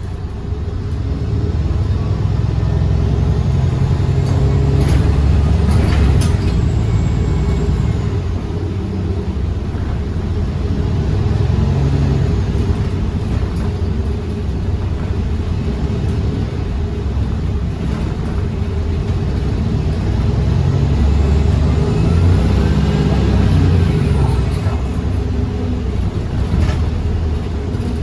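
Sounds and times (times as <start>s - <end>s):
bus rumbling: 0.0s - 28.0s.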